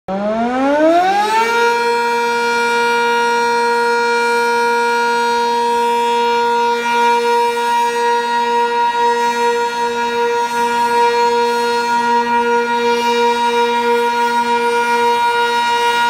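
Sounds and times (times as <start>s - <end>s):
warning siren winding up: 0.1s - 16.0s.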